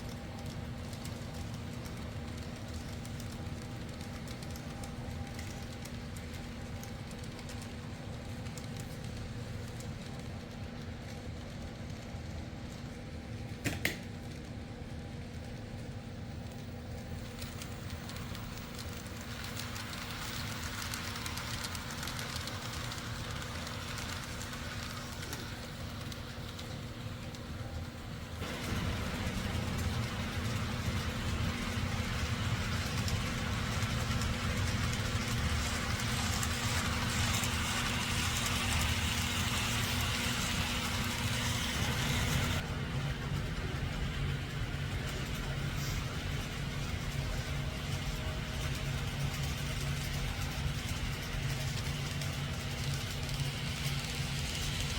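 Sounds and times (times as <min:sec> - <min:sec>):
small locomotive motor: 0:00.0 - 0:13.5, 0:14.2 - 0:54.9
model train wheels rumbling on rail: 0:00.0 - 0:54.9.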